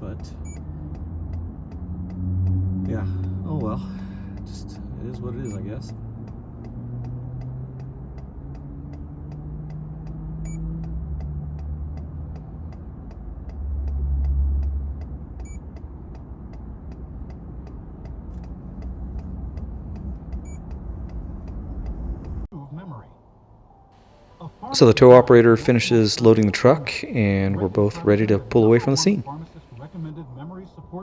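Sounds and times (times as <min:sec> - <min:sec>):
highway traffic rumble: 0:00.0 - 0:22.5, 0:24.0 - 0:30.1
vehicle passing: 0:00.2 - 0:22.2, 0:24.1 - 0:30.1.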